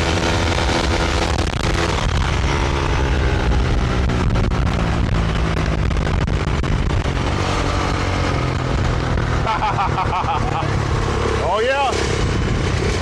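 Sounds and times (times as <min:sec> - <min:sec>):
wind rumbling on microphone: 0:00.0 - 0:09.5, 0:12.0 - 0:13.0
dirt bike engine running: 0:00.0 - 0:13.0.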